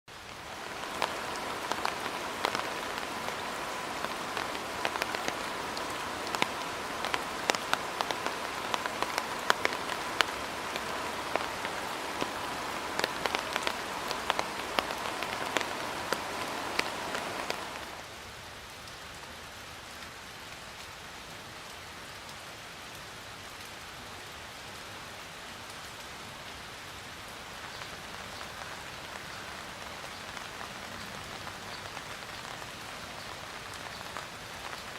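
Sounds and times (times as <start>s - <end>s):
rain falling: 0.0s - 34.9s
raindrops striking a surface: 0.1s - 34.9s.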